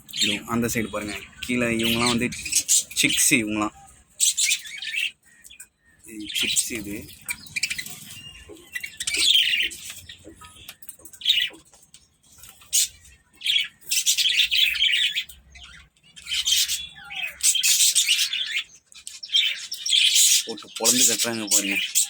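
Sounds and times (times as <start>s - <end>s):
parrots chattering and squawking: 0.0s - 22.0s.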